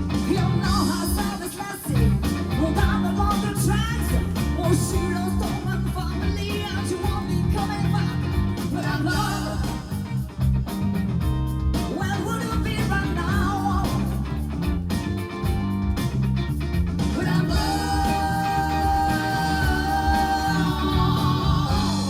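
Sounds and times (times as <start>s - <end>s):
bass guitar: 0.0s - 22.0s
electric guitar: 0.0s - 22.0s
live rock band playing: 0.0s - 22.0s.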